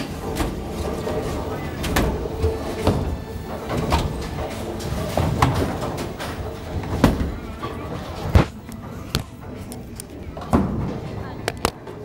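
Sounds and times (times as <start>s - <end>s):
bowling balls rumbling on lanes: 0.0s - 12.0s.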